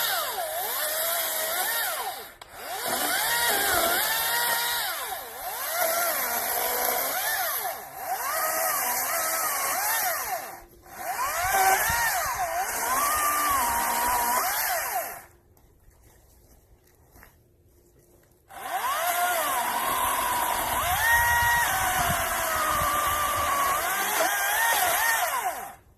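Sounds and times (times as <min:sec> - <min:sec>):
chainsaw cutting wood: 0:00.0 - 0:15.3, 0:18.5 - 0:25.9.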